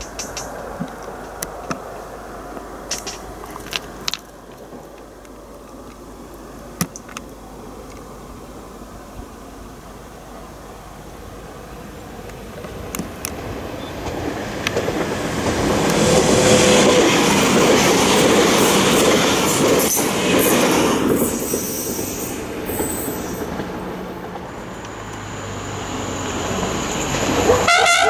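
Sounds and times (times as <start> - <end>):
train wheels on rails: 0.0 - 6.1, 10.4 - 28.0.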